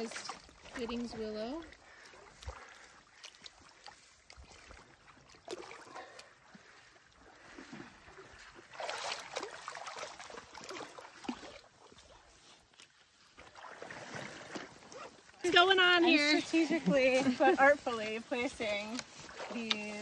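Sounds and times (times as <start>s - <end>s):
faint creek trickle: 0.0s - 20.0s.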